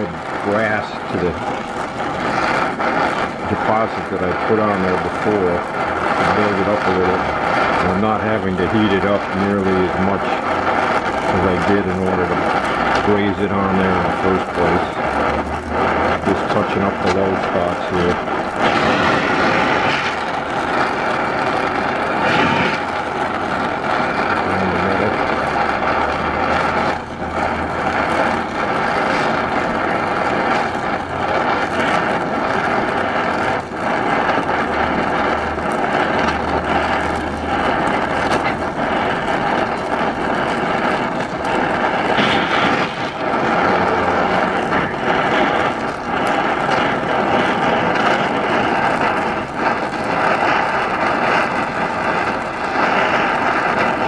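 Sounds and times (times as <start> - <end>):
torch hissing: 0.0 - 54.0.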